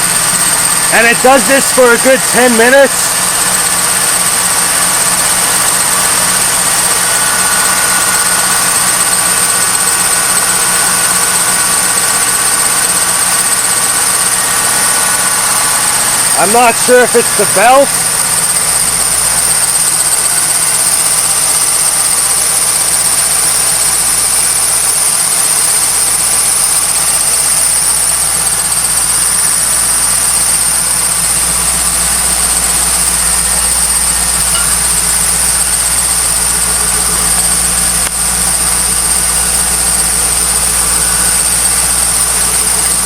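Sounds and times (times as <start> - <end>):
car engine idling: 0.0 - 43.0
high-pitched chirping from belt: 0.0 - 43.0.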